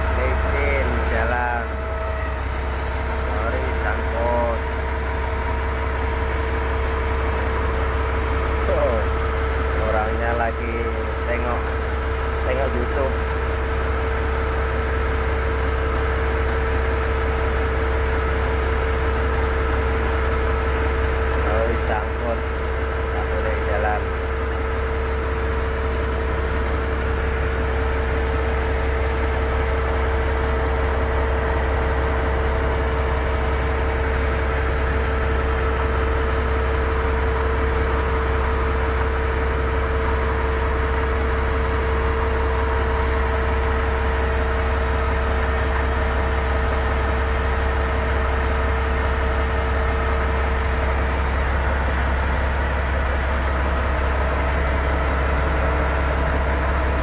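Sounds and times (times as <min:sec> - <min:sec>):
large engine running steadily: 0:00.0 - 0:57.0.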